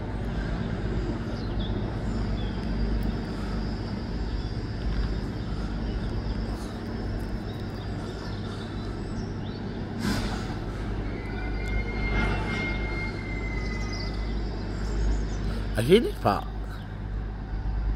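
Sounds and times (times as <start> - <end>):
train engine drone: 0.0 - 17.9
wheels rumbling on track: 0.0 - 17.9.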